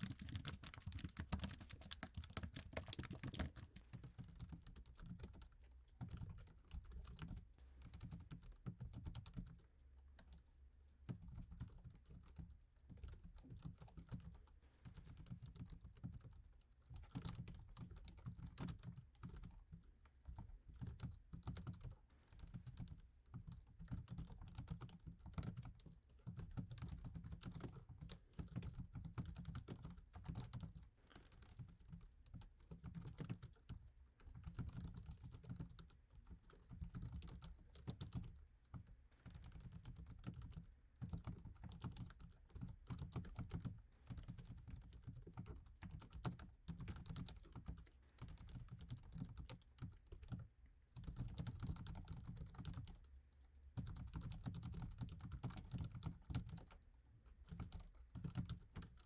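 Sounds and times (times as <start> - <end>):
typing on keyboard: 0.0 - 10.4, 11.1 - 53.1, 53.8 - 59.0.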